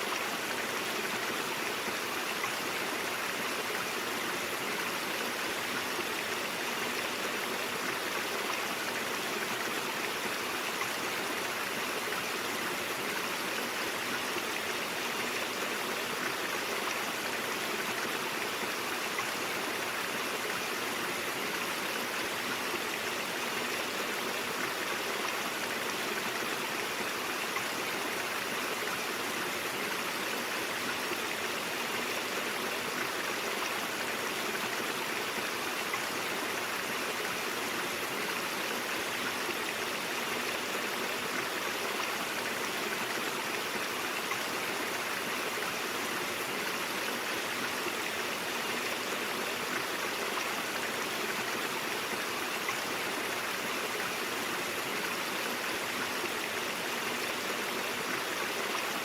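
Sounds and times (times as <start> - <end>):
brook flowing over rocks: 0.0 - 59.0.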